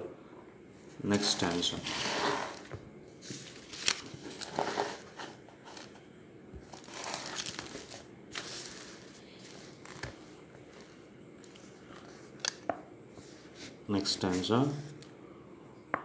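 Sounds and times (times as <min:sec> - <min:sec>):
pages being turned: 0:01.2 - 0:06.0, 0:06.6 - 0:15.1.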